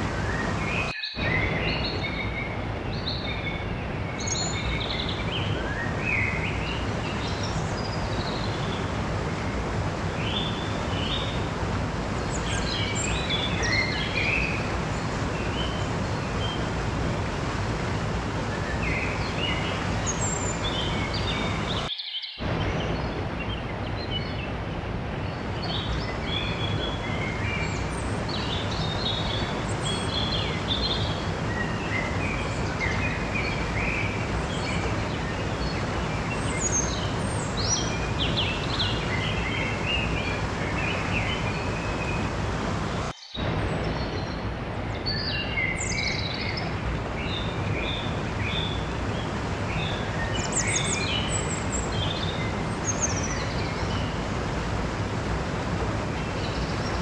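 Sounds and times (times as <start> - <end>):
small birds chirping: 0.0 - 54.6
stream rushing over rocks: 0.0 - 57.0.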